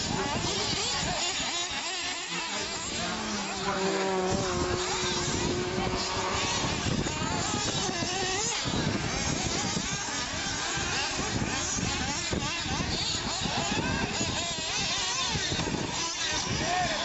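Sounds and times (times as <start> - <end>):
small buggy engines buzzing and revving: 0.0 - 17.0.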